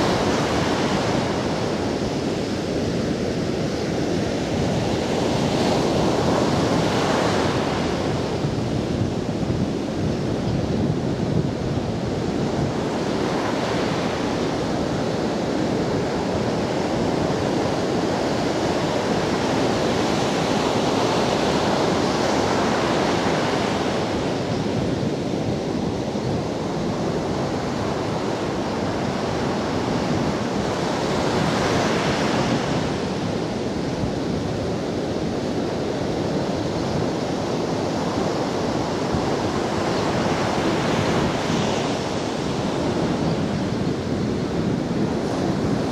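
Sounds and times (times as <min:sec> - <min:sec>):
ocean surf breaking on beach: 0:00.0 - 0:45.9
wind on microphone: 0:00.0 - 0:45.9.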